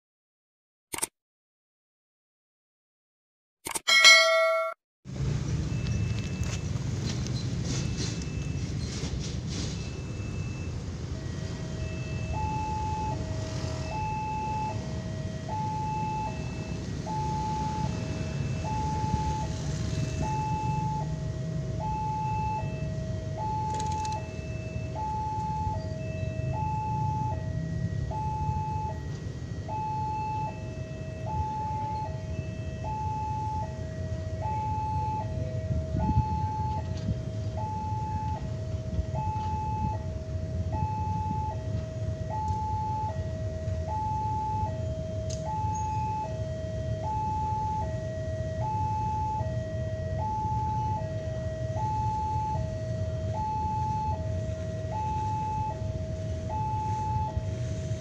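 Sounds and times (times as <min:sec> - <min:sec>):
two-tone level crossing alarm: 0:03.7 - 0:04.8, 0:07.7 - 0:08.8, 0:09.8 - 0:58.0.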